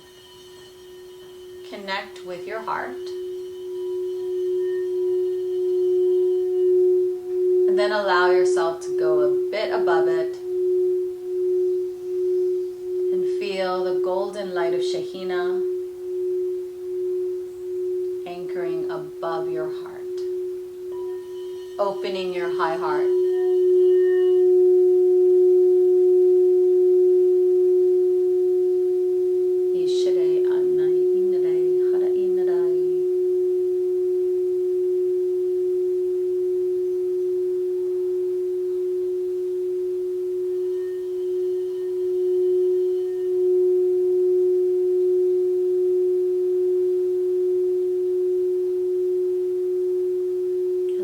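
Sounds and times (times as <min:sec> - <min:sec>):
singing bowl steady tone: 0:00.0 - 0:51.0.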